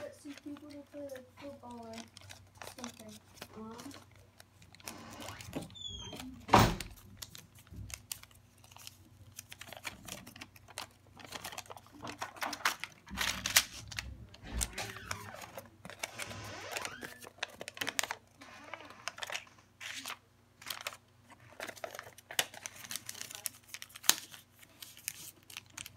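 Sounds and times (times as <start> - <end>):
paper crinkling and rustling: 0.0 - 25.9.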